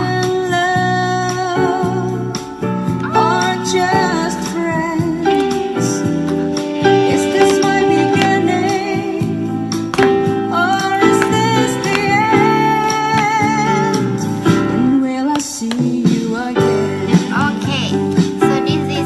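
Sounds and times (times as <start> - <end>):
pop song with singing: 0.0 - 19.0.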